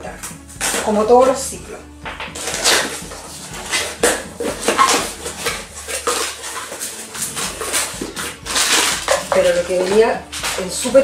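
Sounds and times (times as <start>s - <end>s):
packaging rustling and knocking: 2.0s - 11.0s.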